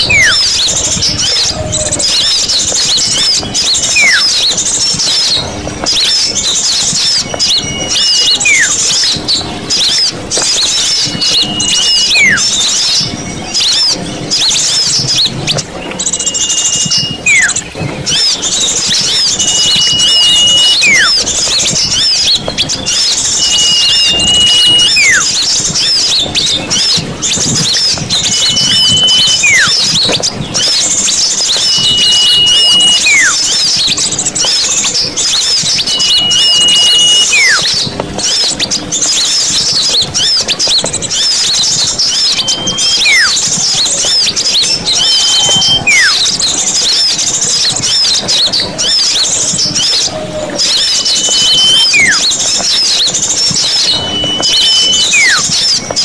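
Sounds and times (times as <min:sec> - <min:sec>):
small birds twittering: 0:00.0 - 0:56.0
whistled call sliding down: 0:00.0 - 0:56.0.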